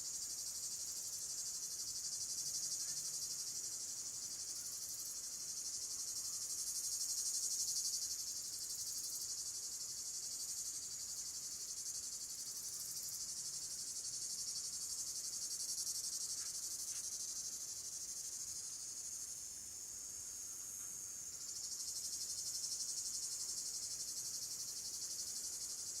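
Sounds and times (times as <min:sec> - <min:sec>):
chorus of chirping insects: 0:00.0 - 0:26.0.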